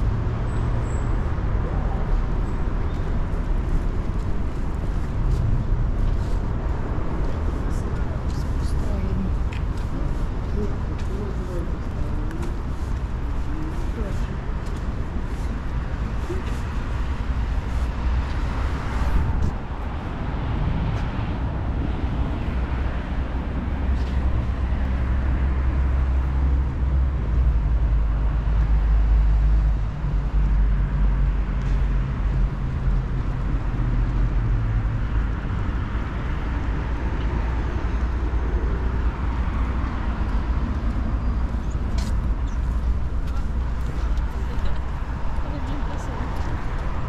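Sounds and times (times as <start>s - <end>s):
road traffic: 0.0s - 47.0s.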